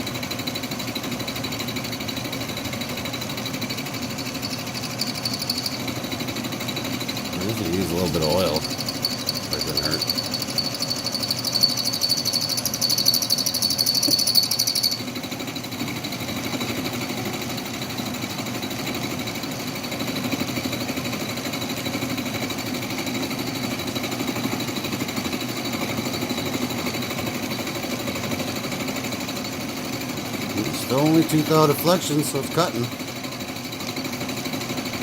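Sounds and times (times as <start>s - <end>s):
end mill rattling cutting metal: 0.2s - 35.0s
lathe cutting metal: 0.6s - 21.9s, 22.6s - 33.1s.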